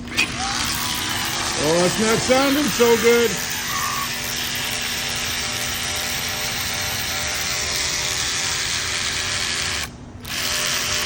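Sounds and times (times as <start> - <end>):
cordless ratchet motor running: 0.0 - 11.0.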